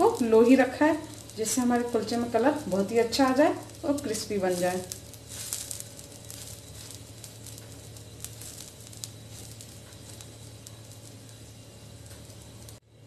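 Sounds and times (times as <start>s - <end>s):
butter sizzling on a griddle: 0.0s - 12.8s
small crackles and pops: 0.0s - 12.8s.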